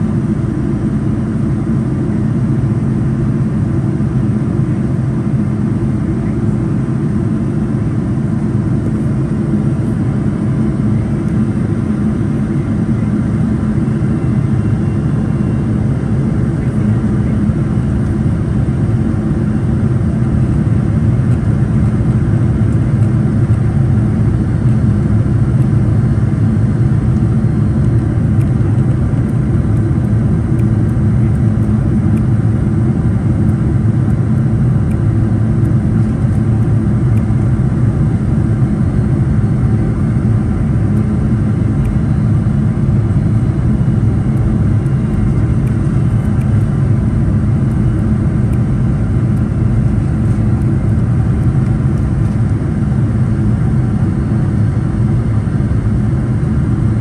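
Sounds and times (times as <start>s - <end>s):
jet engines low rumble: 0.0s - 57.0s.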